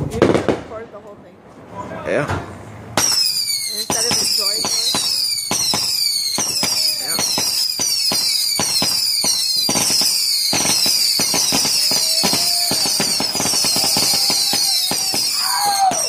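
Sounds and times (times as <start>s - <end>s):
fireworks bangs and crackles: 0.0s - 1.2s, 2.9s - 16.0s
faint firework whistling: 3.0s - 16.0s.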